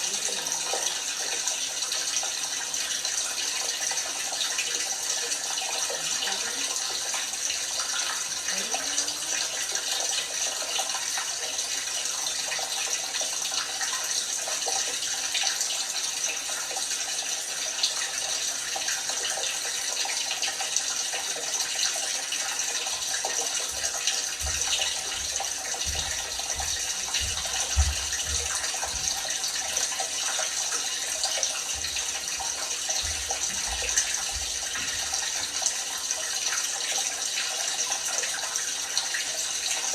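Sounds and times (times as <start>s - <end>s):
water running into drum: 0.0s - 39.9s.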